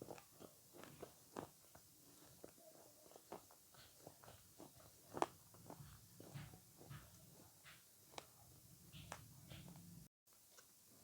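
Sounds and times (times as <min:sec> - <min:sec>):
person chewing softly: 0:00.0 - 0:11.0.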